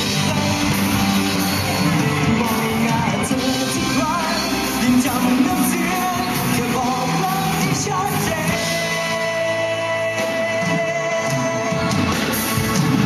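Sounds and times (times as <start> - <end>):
person singing: 0.0 - 12.7
live band playing pop ballad: 0.0 - 13.0.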